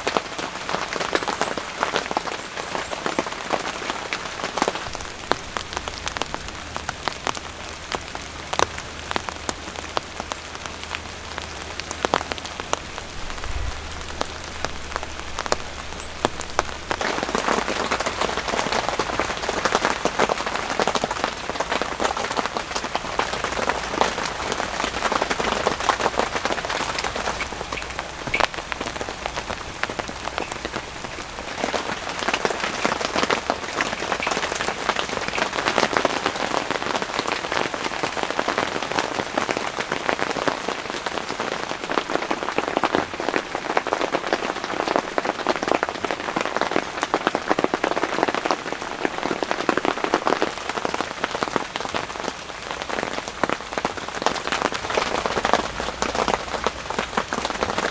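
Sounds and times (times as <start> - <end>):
rain drops pattering: 0.0 - 57.9.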